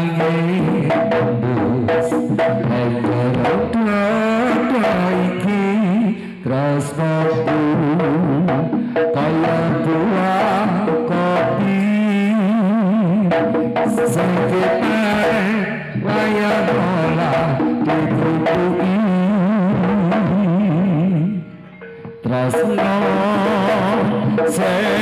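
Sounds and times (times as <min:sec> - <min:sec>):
gamelan ensemble and drums: 0:00.0 - 0:25.0
person singing with vibrato: 0:00.0 - 0:25.0.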